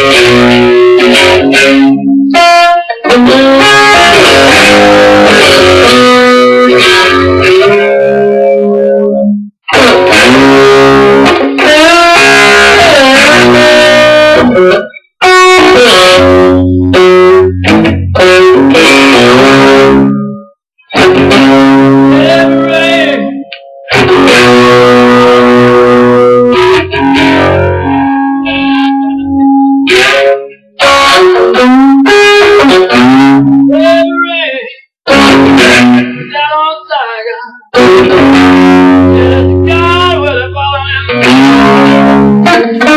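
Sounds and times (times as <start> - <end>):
guitar-led instrumental music: 0.0 - 42.9.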